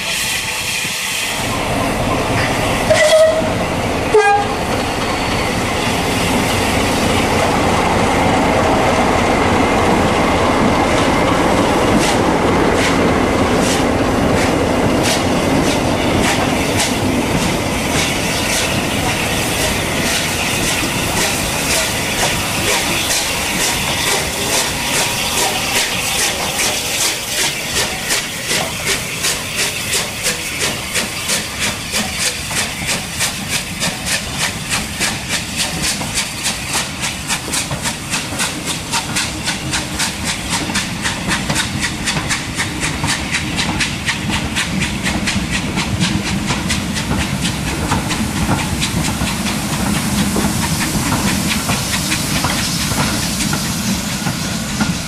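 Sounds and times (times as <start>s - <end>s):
loud hiss of steam: 0.0s - 55.0s
steam locomotive exhaust beats: 0.0s - 55.0s
train coaches running past: 0.0s - 55.0s.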